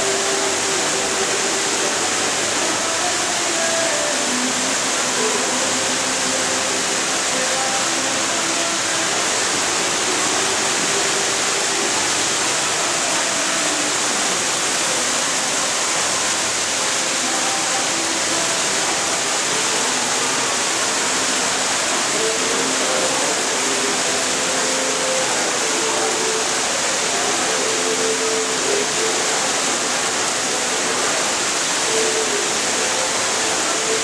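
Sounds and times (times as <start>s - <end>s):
waterfall splashing: 0.0s - 34.0s.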